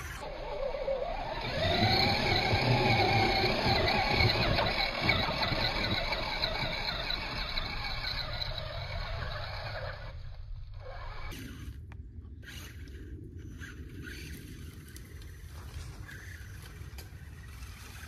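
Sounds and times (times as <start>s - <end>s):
toy car electric motor whining: 0.0s - 11.8s, 12.4s - 18.0s.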